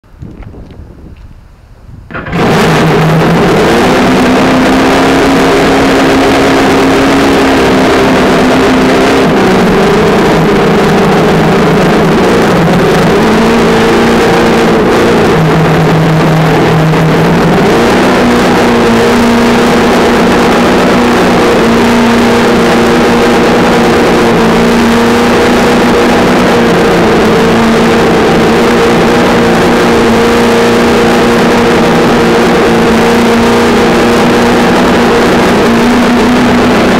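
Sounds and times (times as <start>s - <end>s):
tyres on gravel and asphalt: 0.0s - 36.9s
electric motor whining: 2.1s - 36.9s.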